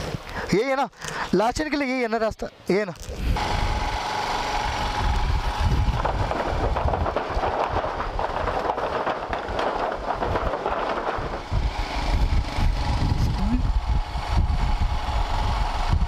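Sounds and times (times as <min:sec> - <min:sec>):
motorcycle engine rumbling: 0:03.0 - 0:16.0.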